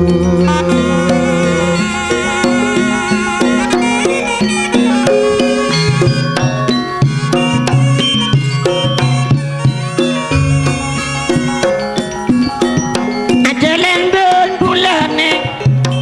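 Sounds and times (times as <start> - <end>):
wavering wind instrument melody: 0.0 - 14.0
hand drum strokes: 0.0 - 16.0.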